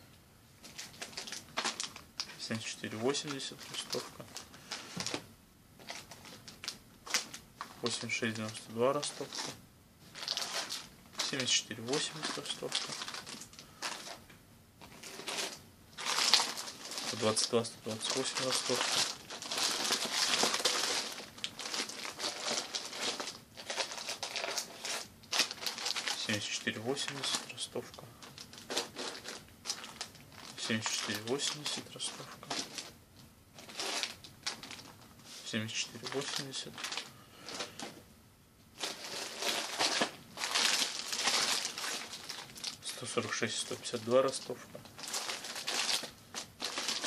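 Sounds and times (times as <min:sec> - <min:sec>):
plastic bags crinkling: 0:00.6 - 0:05.2, 0:05.8 - 0:38.0, 0:38.8 - 0:47.0.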